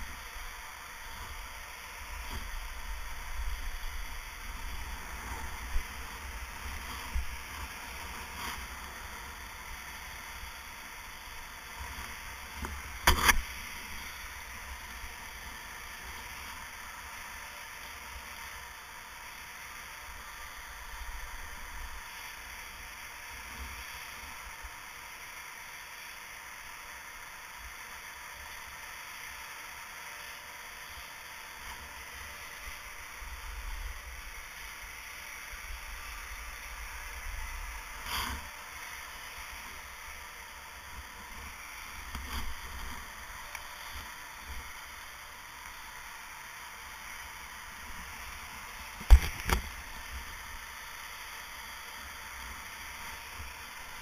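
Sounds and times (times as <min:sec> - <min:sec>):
steady rushing hiss: 0:00.0 - 0:54.0.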